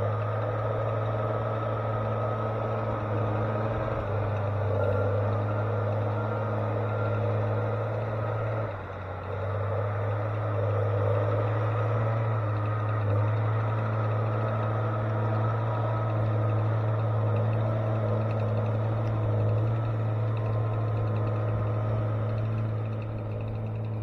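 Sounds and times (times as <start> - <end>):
heavy machine engine droning: 0.0 - 24.0.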